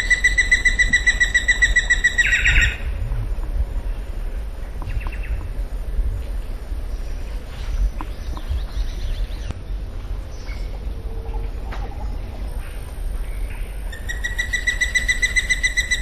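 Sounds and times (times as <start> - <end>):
boat low rumble: 0.0 - 16.0.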